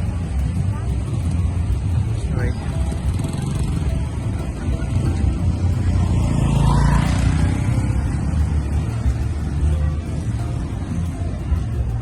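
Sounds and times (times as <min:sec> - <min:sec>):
street traffic rumbling: 0:00.0 - 0:12.0
vehicle passing close: 0:00.0 - 0:12.0.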